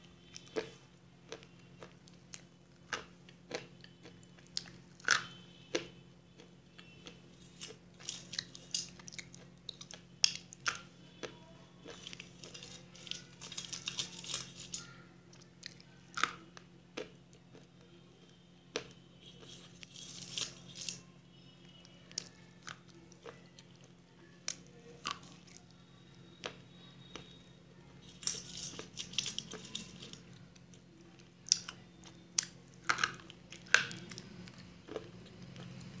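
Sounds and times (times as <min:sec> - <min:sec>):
person crunching brittle food: 0:00.2 - 0:21.1, 0:22.1 - 0:25.8, 0:26.4 - 0:27.4, 0:28.0 - 0:36.0.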